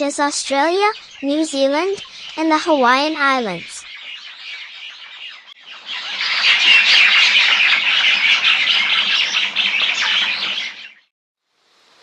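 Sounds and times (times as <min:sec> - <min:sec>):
myna chattering calls: 0:00.0 - 0:11.0.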